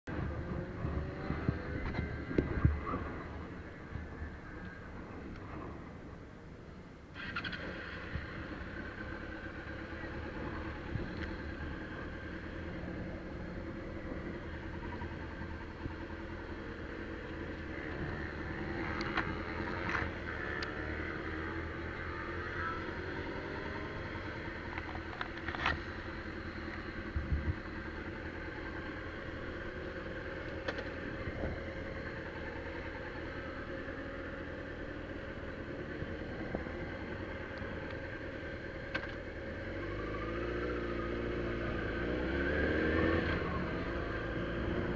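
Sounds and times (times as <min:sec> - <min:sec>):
motorcycle engine running: 0:00.1 - 0:05.8, 0:07.2 - 0:44.9.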